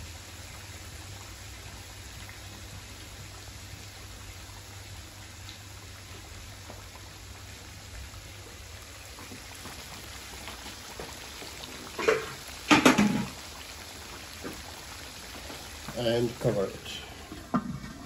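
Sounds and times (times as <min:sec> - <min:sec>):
food simmering in oil: 0:00.0 - 0:18.0.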